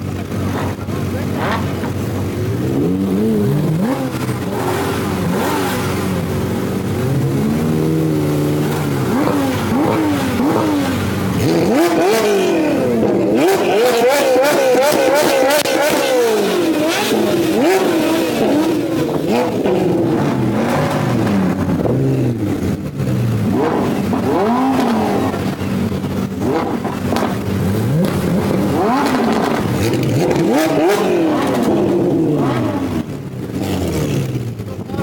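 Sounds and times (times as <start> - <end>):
sports car engines revving: 0.0 - 35.0.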